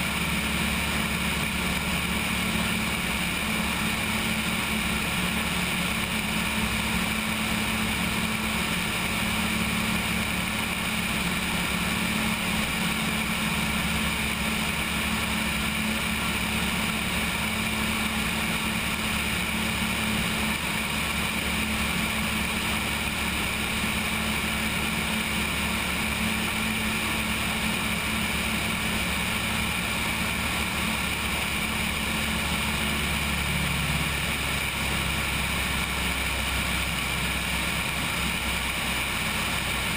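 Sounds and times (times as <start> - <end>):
airplane engine and propeller running: 0.0 - 39.9.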